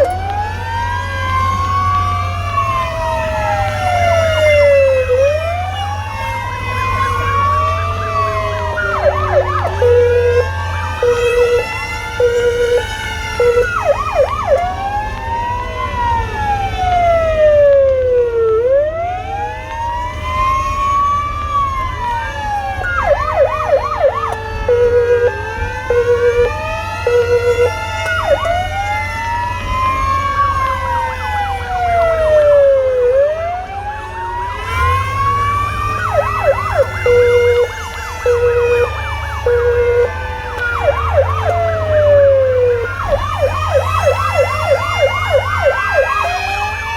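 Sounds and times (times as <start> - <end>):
emergency sirens wailing: 0.0 - 46.9
low engine and road rumble: 0.0 - 46.9
siren yelping: 0.0 - 46.9.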